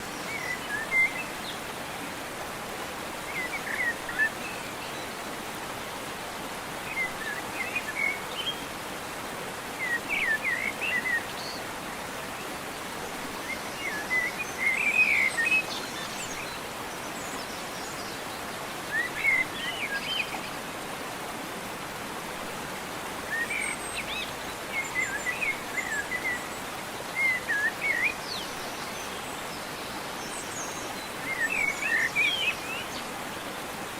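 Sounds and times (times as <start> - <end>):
outdoor background hiss: 0.0 - 33.9.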